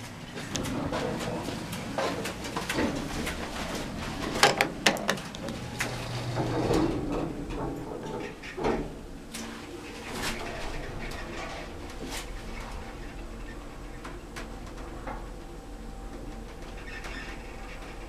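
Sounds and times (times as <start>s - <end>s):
elevator doors sliding shut: 0.4s - 18.0s.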